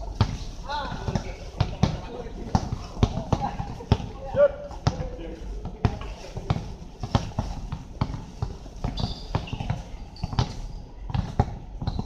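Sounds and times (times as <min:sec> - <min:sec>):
basketball bouncing on court: 0:00.2 - 0:12.0.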